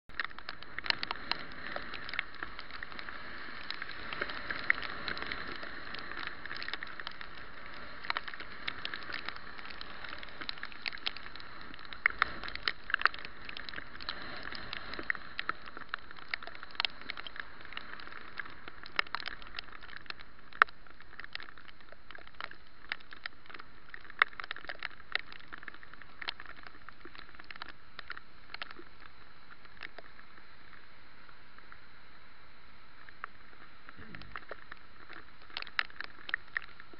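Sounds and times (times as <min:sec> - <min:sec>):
rain and wet road hiss: 0:00.1 - 0:36.9
raindrops ticking on camera: 0:00.1 - 0:36.9.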